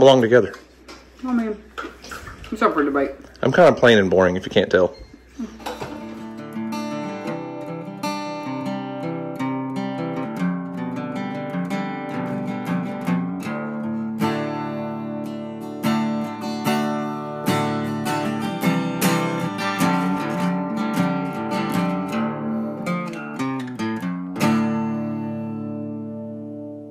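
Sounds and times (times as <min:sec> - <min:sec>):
acoustic guitar music: 0:05.2 - 0:26.9.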